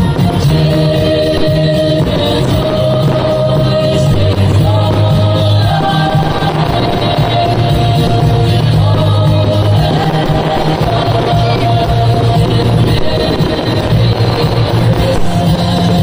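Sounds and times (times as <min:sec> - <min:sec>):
loud rock music with singing: 0:00.0 - 0:16.0.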